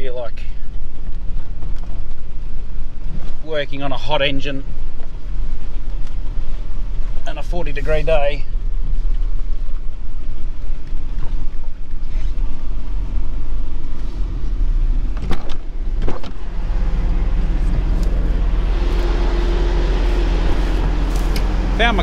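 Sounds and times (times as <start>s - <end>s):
steady hum: 0.0s - 22.0s
vehicle engine drone from cab: 0.0s - 22.0s.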